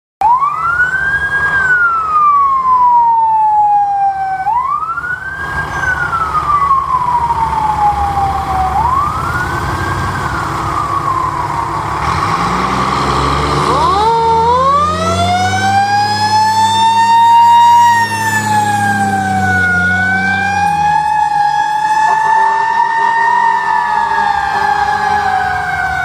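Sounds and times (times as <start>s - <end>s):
siren wailing: 0.2s - 26.0s
truck engine: 0.2s - 26.0s.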